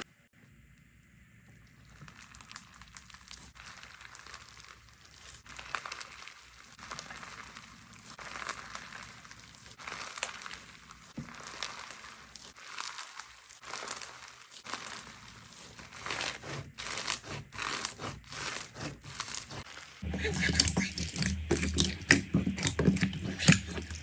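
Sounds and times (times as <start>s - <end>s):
slime crackly squelches: 1.3s - 24.0s.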